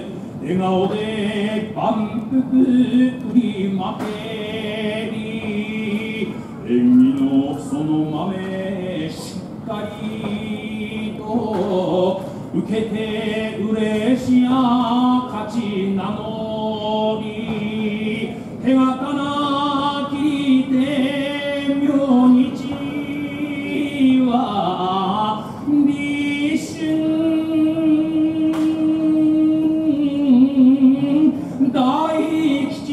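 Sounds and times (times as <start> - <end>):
man singing unaccompanied: 0.0 - 32.9.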